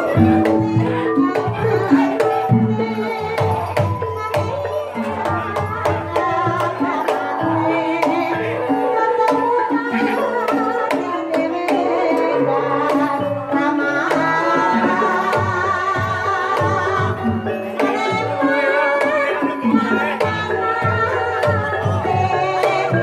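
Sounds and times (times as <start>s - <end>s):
hand-drum strokes: 0.0s - 23.0s
tuned percussion notes: 0.0s - 23.0s.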